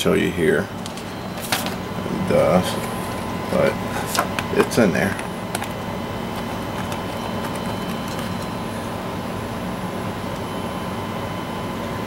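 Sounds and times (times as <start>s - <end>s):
mechanical room hum: 0.0s - 12.0s.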